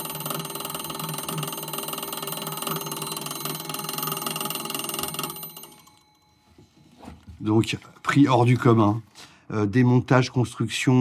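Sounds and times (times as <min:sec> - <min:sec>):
electric bell ringing: 0:00.0 - 0:08.8.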